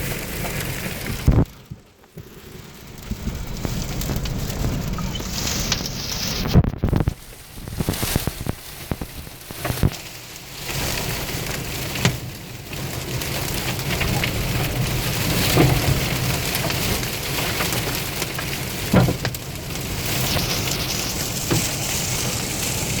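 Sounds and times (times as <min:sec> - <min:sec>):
heavy rain in wind storm: 0:00.0 - 0:23.0.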